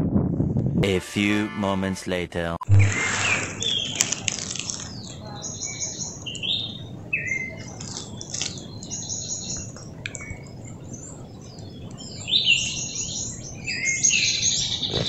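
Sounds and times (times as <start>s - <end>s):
birds chirping and calling: 2.7s - 15.0s.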